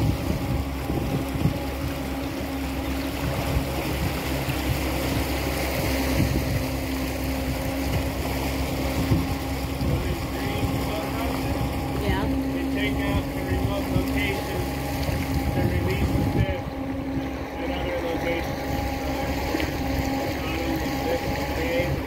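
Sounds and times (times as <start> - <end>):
boat engine running: 0.0 - 22.0
wind buffeting microphone: 0.0 - 22.0.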